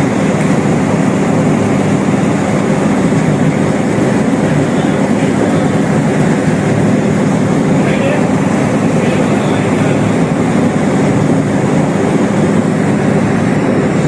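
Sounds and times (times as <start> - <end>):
machinery rumbling hum: 0.0 - 14.0.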